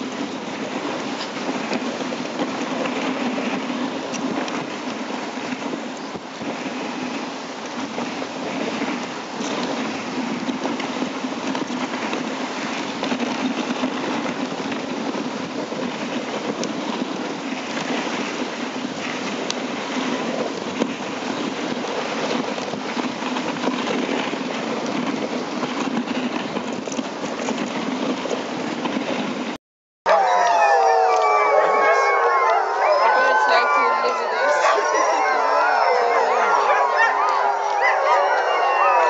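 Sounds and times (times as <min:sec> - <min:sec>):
sled runners sliding over snow: 0:00.0 - 0:39.0.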